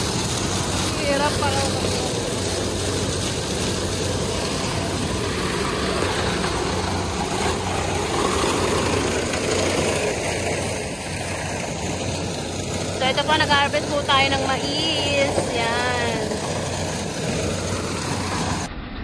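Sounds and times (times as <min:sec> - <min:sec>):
harvester machinery noise: 0:00.0 - 0:18.7
diesel engine drone: 0:00.0 - 0:19.0.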